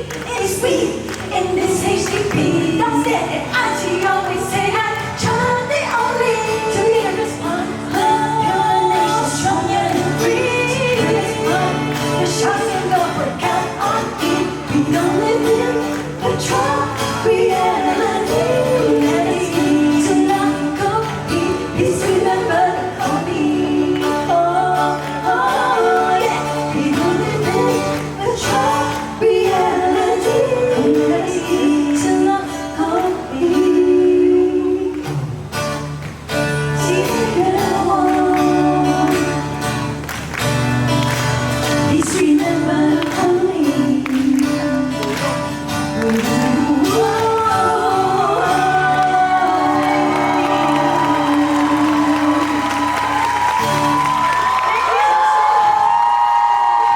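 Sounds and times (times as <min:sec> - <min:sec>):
person singing: 0:00.0 - 0:35.2, 0:36.7 - 0:39.8, 0:41.7 - 0:56.9
bass: 0:00.0 - 0:56.9
live pop band: 0:00.0 - 0:56.9.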